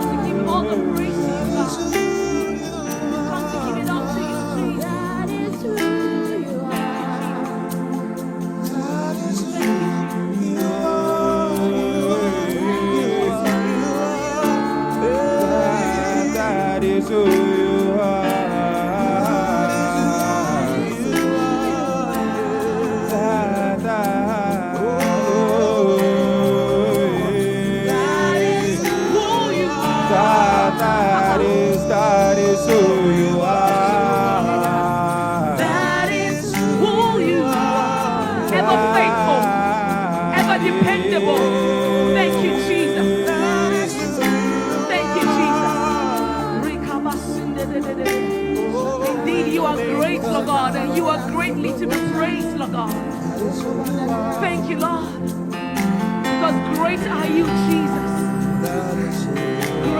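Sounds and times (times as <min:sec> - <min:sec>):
bass line: 0:00.0 - 0:59.9
light ticking beat: 0:00.0 - 0:59.9
person singing wordless melody: 0:00.0 - 0:59.9
sustained keyboard chords: 0:00.0 - 0:59.9.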